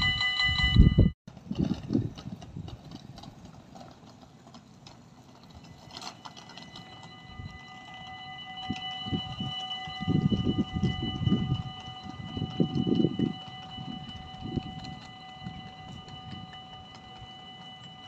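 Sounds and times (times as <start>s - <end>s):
level-crossing warning bell: 0.0s - 1.2s, 3.4s - 18.0s.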